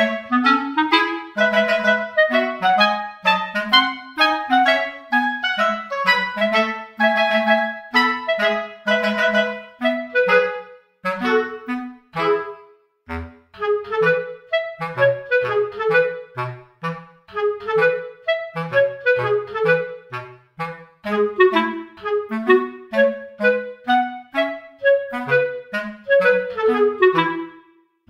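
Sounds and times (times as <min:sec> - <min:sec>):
light instrumental tune: 0:00.0 - 0:27.9.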